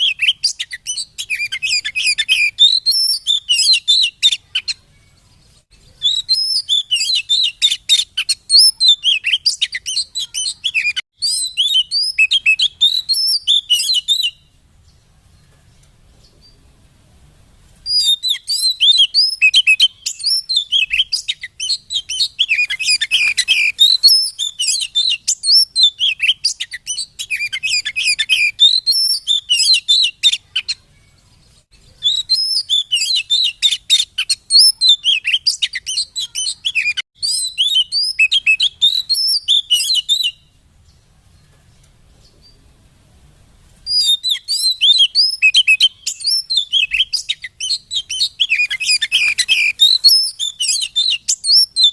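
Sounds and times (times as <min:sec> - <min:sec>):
bird singing chirps and whistles: 0:00.0 - 0:15.0, 0:17.9 - 0:40.6, 0:43.9 - 0:51.9.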